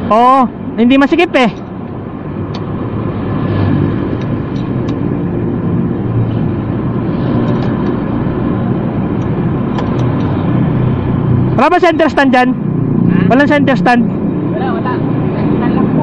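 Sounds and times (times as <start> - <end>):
motor traffic rumble: 0.0 - 16.0.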